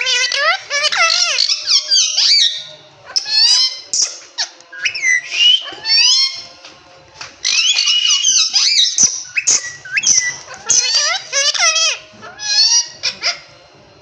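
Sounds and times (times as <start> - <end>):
parakeet squawks and whistles: 0.0 - 6.5, 7.4 - 13.6.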